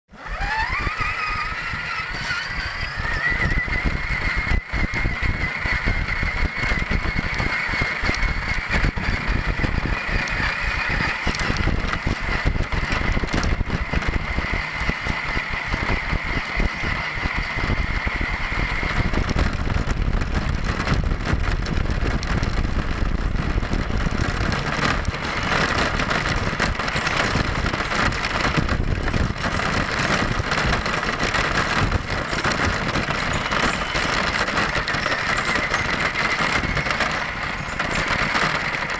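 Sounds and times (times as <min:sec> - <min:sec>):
electric motor and gears whining: 0:00.1 - 0:38.9
tyres rumbling on rough ground: 0:00.1 - 0:38.9.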